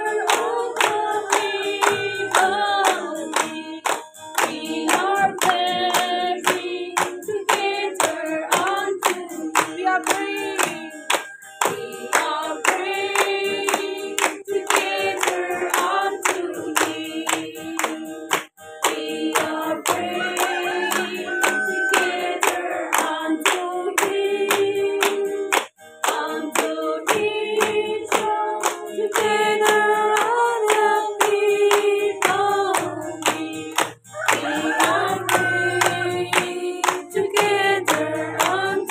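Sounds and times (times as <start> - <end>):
hands clapping in rhythm: 0.0 - 38.9
women singing together: 0.0 - 38.9.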